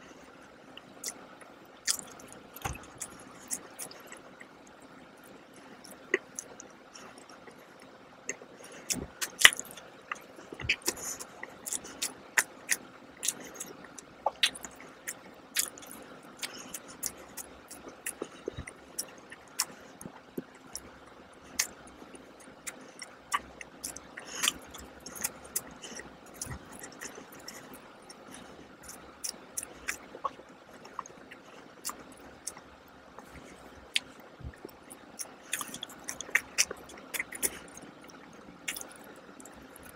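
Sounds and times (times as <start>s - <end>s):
chewing with mouth clicks: 0.8s - 39.9s.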